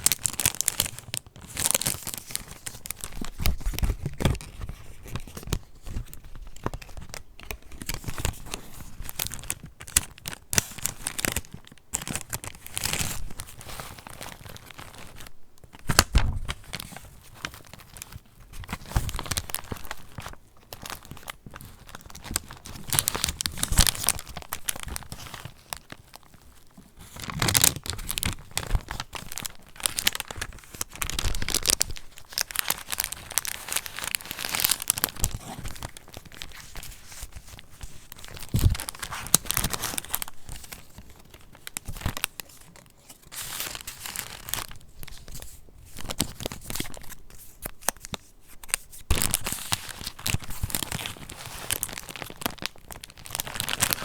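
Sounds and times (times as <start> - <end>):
paper rustling and crinkling: 0.0 - 54.0.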